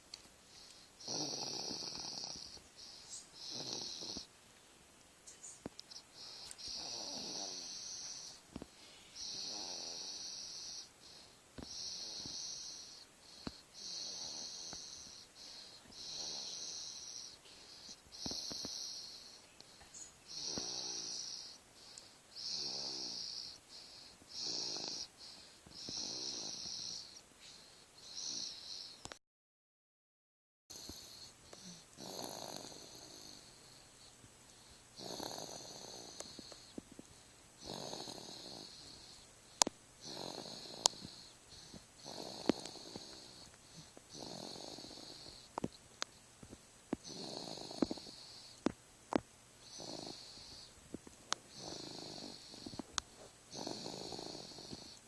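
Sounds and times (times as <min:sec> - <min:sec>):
baby snoring: 0:00.6 - 0:04.3, 0:05.9 - 0:08.4, 0:09.1 - 0:29.0, 0:30.7 - 0:34.1, 0:35.0 - 0:36.8, 0:37.6 - 0:45.7, 0:47.0 - 0:48.6, 0:49.6 - 0:50.8, 0:51.5 - 0:52.9, 0:53.5 - 0:55.0.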